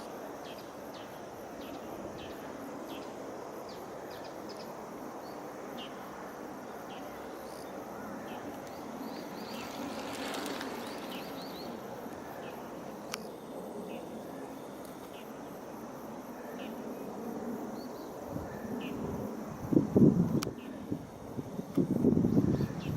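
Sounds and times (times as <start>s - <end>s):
steady rushing noise: 1.8s - 22.9s.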